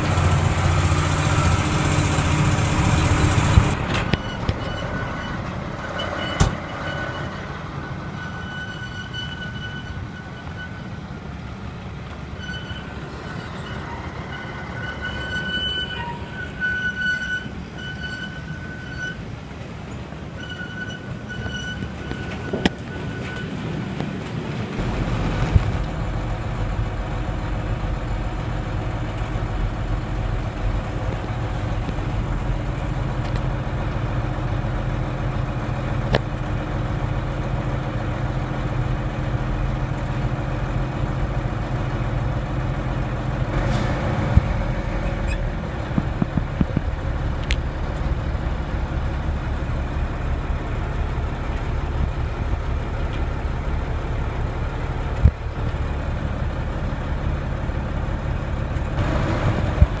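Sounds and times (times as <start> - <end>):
heavy vehicle engine droning: 0.0 - 60.0.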